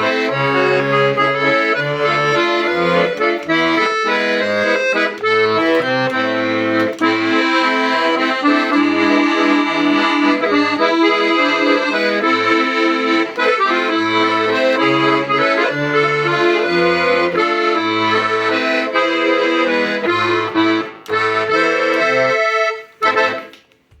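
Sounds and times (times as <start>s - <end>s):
accordion playing a tune: 0.0s - 23.7s.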